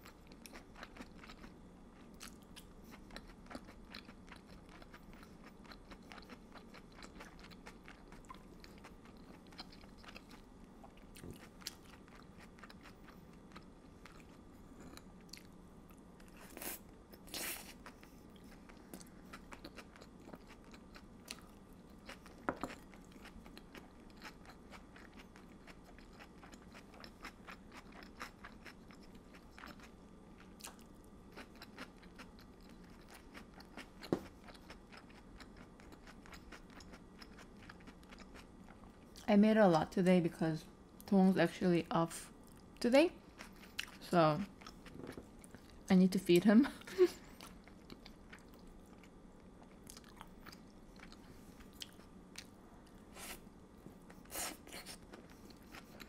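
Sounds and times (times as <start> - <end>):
person chewing food: 0.0 - 39.3, 42.4 - 45.9, 46.8 - 56.0.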